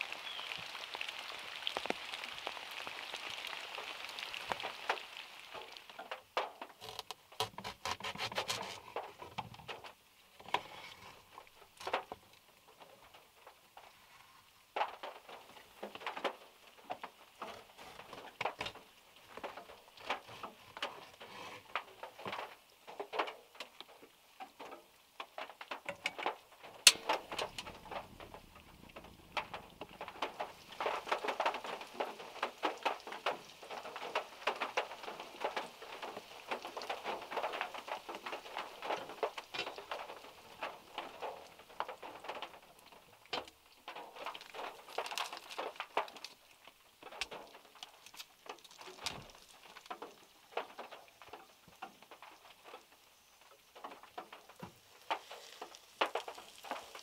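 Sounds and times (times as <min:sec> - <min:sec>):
raindrops pattering on car roof: 0:00.0 - 0:57.0.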